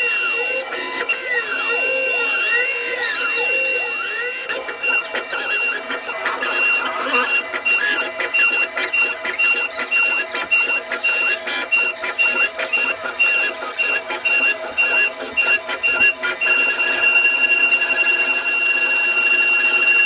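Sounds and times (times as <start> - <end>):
router cutting wood whine: 0.0 - 20.0.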